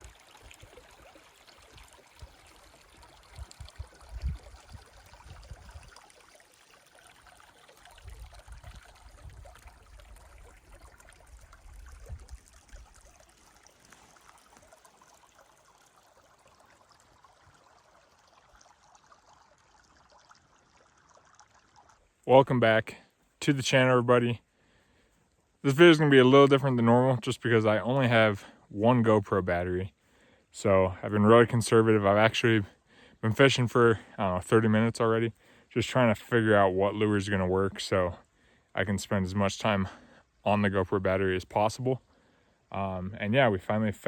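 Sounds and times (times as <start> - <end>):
creek trickling: 0.0 - 44.0.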